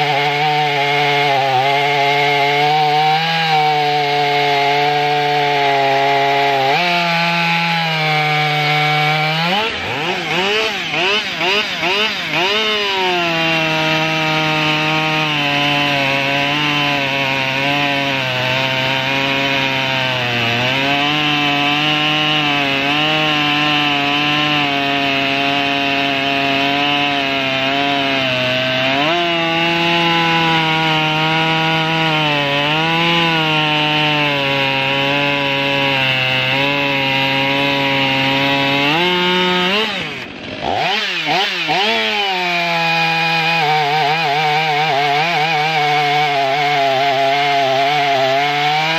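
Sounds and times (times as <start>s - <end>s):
chainsaw cutting wood: 0.0s - 48.9s
chainsaw revving into cut: 0.0s - 48.9s.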